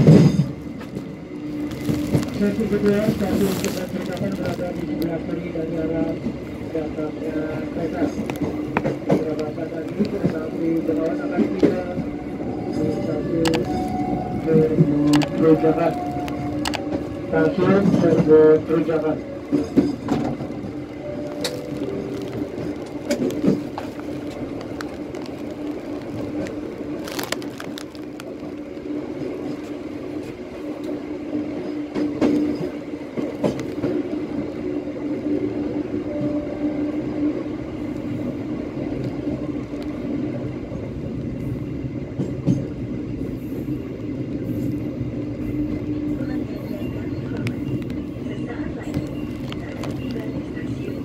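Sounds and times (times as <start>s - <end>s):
train wheels clicking on track: 0.0s - 35.5s, 37.8s - 50.9s
train hum and rumble: 0.0s - 51.0s.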